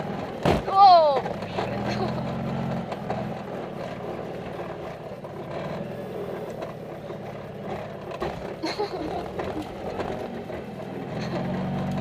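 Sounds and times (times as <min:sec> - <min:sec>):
car engine running: 0:00.0 - 0:12.0
road and body noise: 0:00.0 - 0:12.0.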